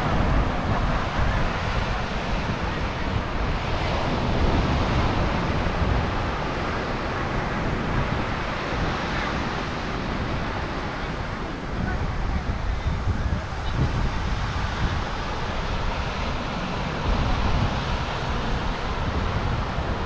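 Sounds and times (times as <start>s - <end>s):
waves breaking on shore: 0.0s - 20.0s
wind noise on microphone: 0.0s - 20.0s.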